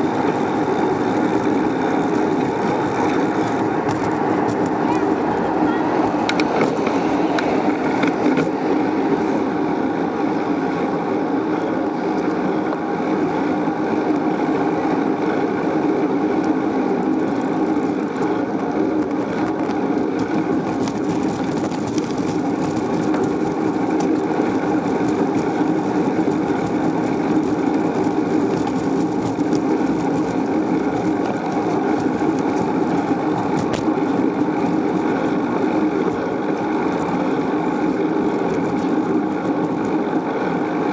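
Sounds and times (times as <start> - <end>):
wind noise: 0.0 - 11.0, 15.8 - 40.9
bicycle rolling noise: 0.0 - 40.9.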